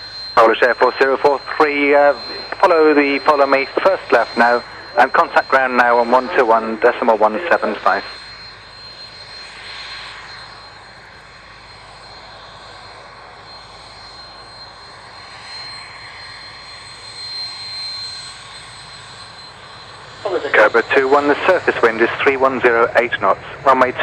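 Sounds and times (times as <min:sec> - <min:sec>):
aircraft engine running: 0:00.0 - 0:24.0
thin high whine: 0:00.0 - 0:24.0.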